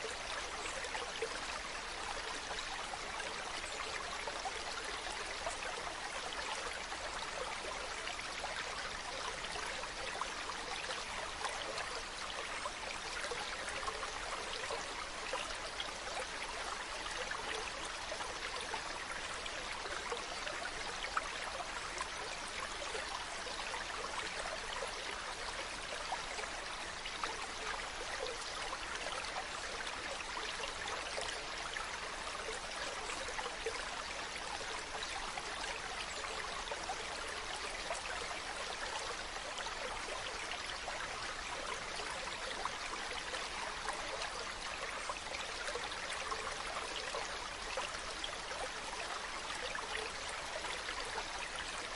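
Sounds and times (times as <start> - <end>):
stream running over rocks: 0.0 - 51.9.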